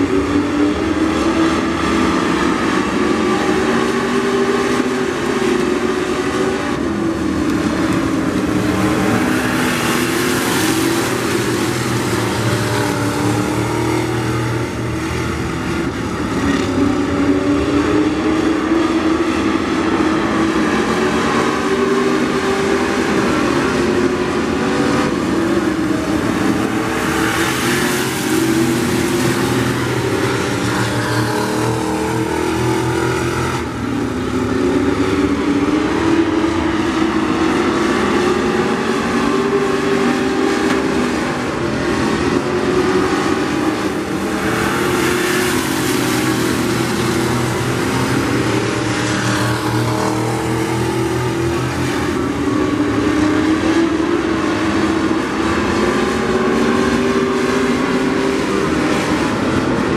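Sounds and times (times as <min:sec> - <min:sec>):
race car engines: 0:00.0 - 0:59.9.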